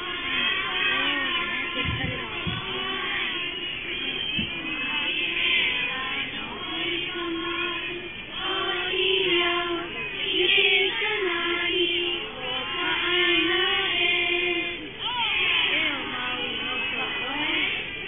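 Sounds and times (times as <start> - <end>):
person singing long held notes: 0.0 - 18.0.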